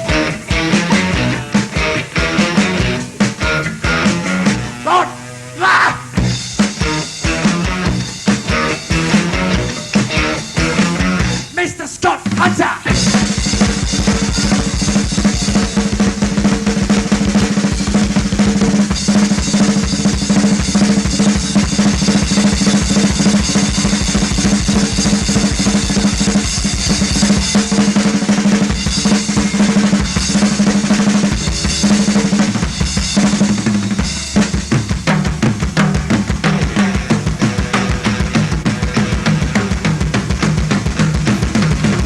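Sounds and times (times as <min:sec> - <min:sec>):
drum kit solo: 0:00.0 - 0:42.0
cymbals: 0:06.0 - 0:11.6, 0:12.9 - 0:42.0.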